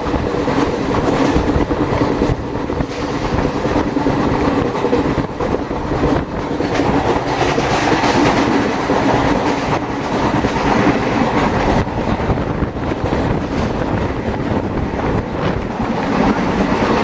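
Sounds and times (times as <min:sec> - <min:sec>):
train rumbling on track: 0:00.0 - 0:17.0
wheels clacking and rattling: 0:00.0 - 0:17.0.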